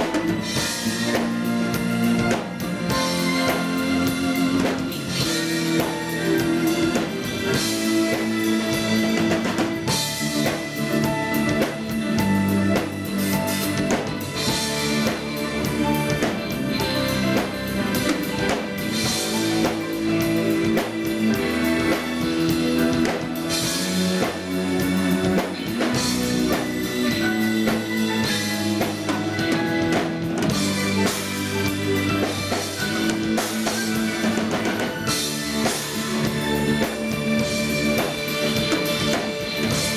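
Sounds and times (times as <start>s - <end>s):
drum kit with cymbal crashes: 0.0s - 39.9s
keyboards: 0.0s - 39.9s.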